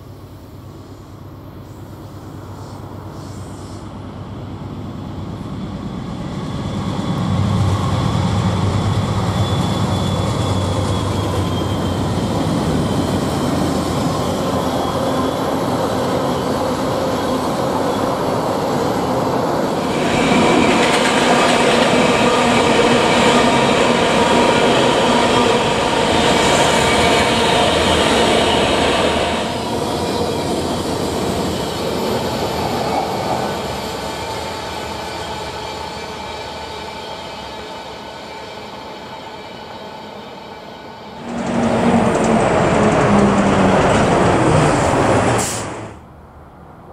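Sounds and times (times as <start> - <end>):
train wheels on rails: 0.0 - 46.1
diesel locomotive engine hum: 0.0 - 46.9.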